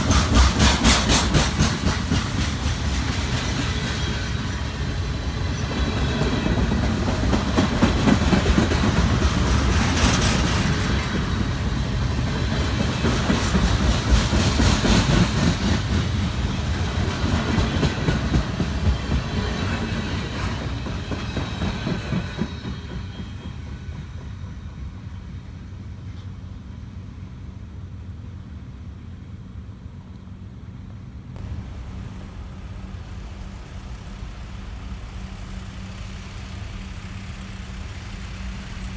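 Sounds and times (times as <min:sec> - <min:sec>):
freight train cars rolling: 0:00.0 - 0:38.9.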